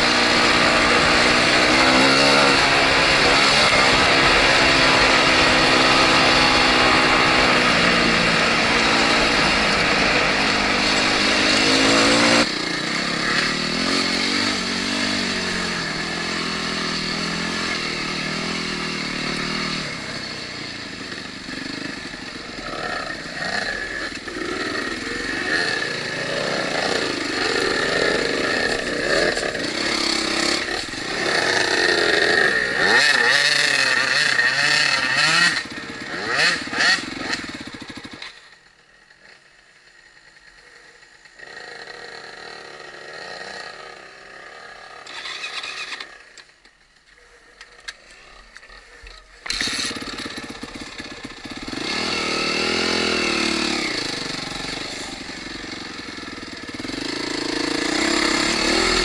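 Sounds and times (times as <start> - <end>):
dirt bike engine revving: 0.0 - 39.4, 40.2 - 46.5, 48.0 - 59.0.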